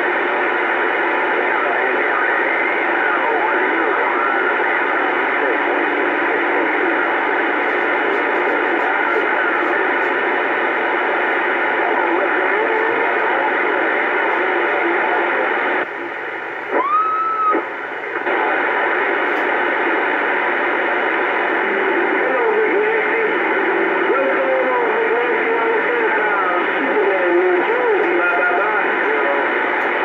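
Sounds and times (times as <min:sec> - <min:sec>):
faint garbled voices: 0:00.0 - 0:30.0
radio static hiss: 0:00.0 - 0:30.0.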